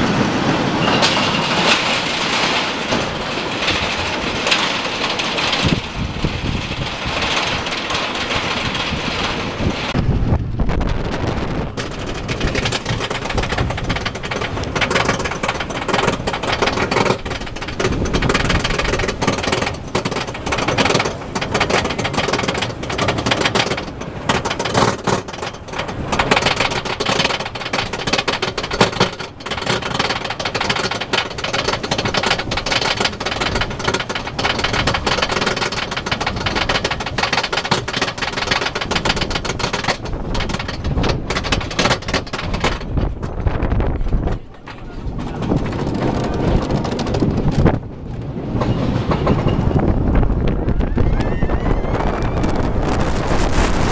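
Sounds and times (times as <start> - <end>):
roller coaster chain lift clacking: 0.0 - 53.9.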